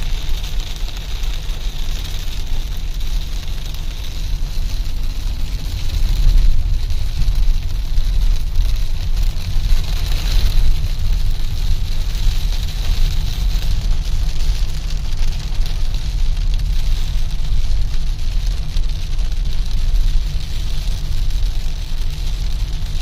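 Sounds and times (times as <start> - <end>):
rain and tyre spray hiss: 0.0 - 23.0
road and engine rumble: 0.0 - 23.0.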